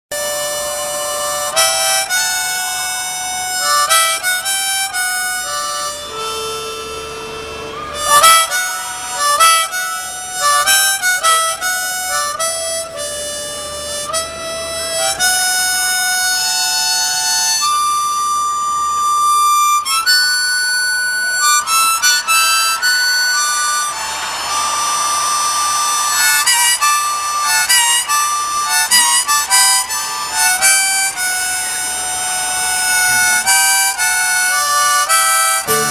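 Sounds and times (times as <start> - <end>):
harmonica playing a melody: 0.1 - 35.9.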